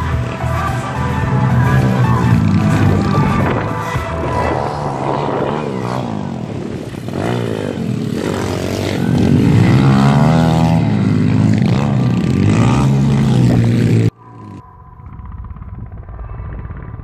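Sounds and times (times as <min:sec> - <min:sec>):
motorbike engines revving: 0:00.0 - 0:17.0.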